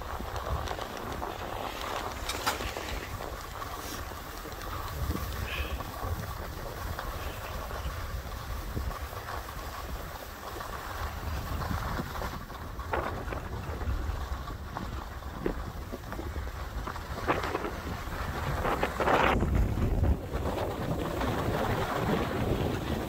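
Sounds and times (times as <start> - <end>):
skis scraping over snow: 0.0 - 23.0
wind rumbling on microphone: 0.0 - 23.0.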